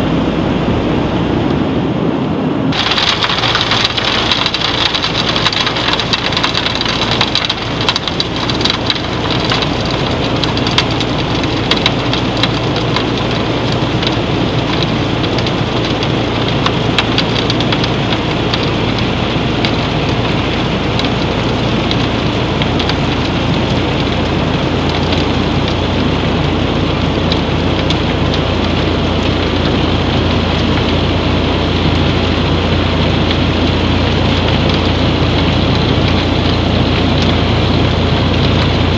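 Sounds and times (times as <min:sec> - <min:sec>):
low machine hum: 0:00.0 - 0:38.9
granules rushing and rattling: 0:02.7 - 0:38.9.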